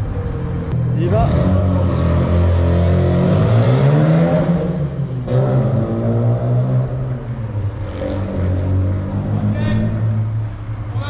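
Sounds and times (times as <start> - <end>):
car engine accelerating hard: 0.7 - 10.6.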